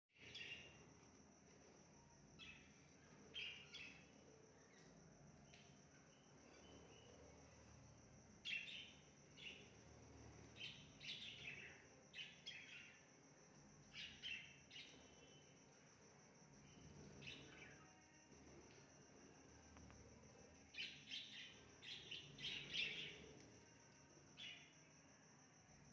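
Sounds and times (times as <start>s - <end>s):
faint bird chirps: 0.2s - 24.9s.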